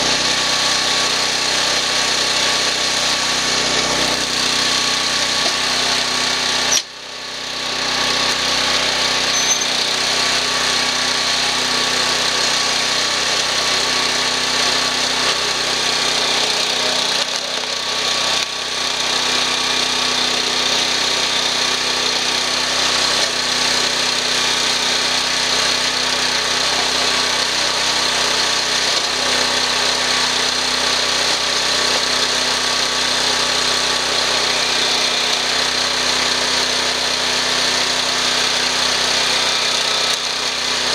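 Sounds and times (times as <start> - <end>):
log splitter engine running: 0.0 - 40.9.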